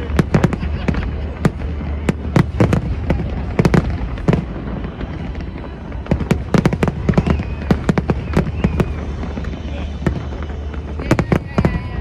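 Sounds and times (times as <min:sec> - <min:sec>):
fireworks bangs: 0:00.0 - 0:12.0
low rumble: 0:00.0 - 0:12.0.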